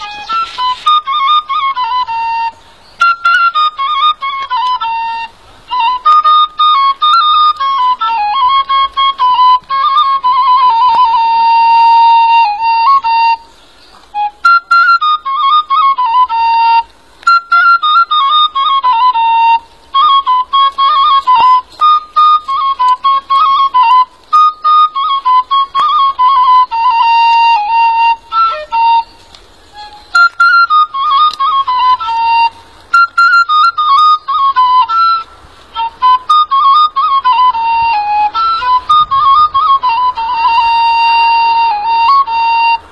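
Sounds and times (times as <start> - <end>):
high flute-like melody: 0.0 - 42.9.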